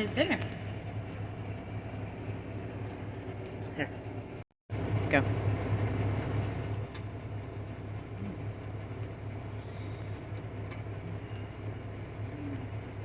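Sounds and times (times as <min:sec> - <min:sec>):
truck engine drone: 0:00.0 - 0:13.0.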